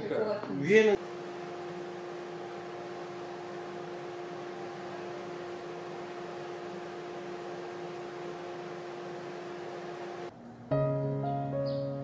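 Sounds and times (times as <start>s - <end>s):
steady hum: 0.6s - 10.7s.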